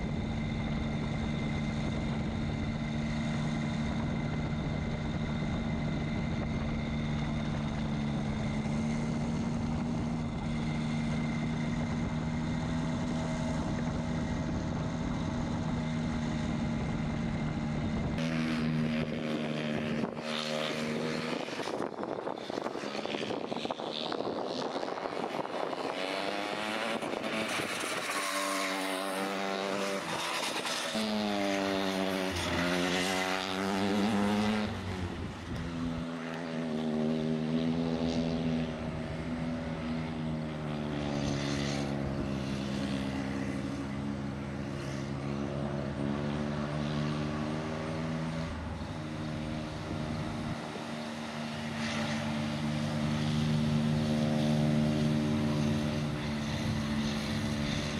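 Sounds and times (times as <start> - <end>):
kart engine at high revs: 0.0 - 57.9.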